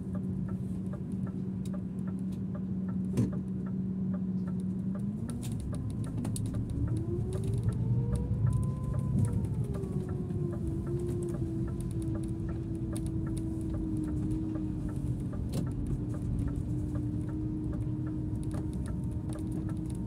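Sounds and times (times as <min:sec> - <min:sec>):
bus drivetrain hum: 0:00.0 - 0:20.0
turn-signal relay ticking: 0:00.0 - 0:20.0.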